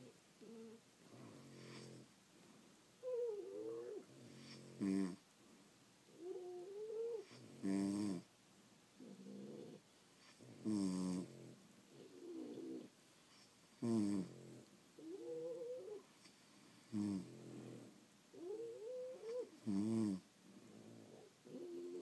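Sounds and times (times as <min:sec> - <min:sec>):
dog snoring: 0:00.4 - 0:02.1, 0:03.0 - 0:05.2, 0:06.1 - 0:08.3, 0:09.0 - 0:16.0, 0:16.8 - 0:22.0.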